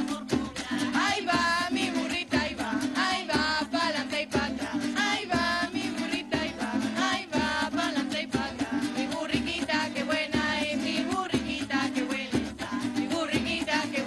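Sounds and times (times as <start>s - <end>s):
small strummed string instrument: 0.0s - 14.0s
women singing: 0.0s - 14.0s.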